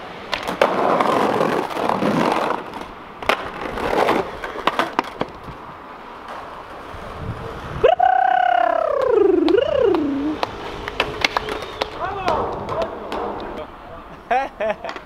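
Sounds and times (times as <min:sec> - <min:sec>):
skateboard clacking on ground: 0:00.0 - 0:05.6, 0:06.2 - 0:07.0, 0:08.8 - 0:15.0
skateboard wheels rolling on paving: 0:00.0 - 0:15.0.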